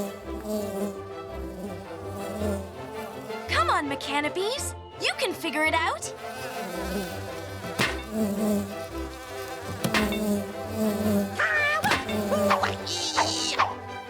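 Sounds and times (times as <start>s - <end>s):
cartoon robot bees buzzing: 0.0s - 14.0s
soft background music: 0.0s - 14.0s.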